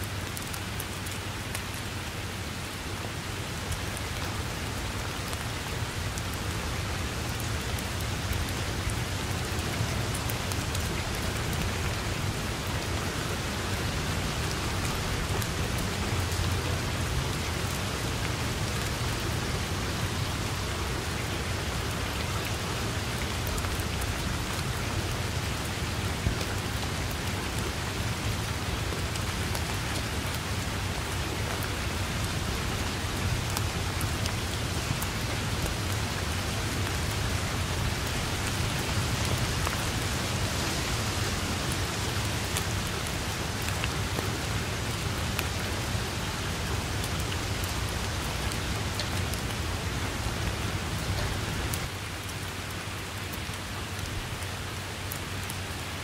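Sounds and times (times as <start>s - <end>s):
rain on grass and foliage: 0.0s - 56.0s.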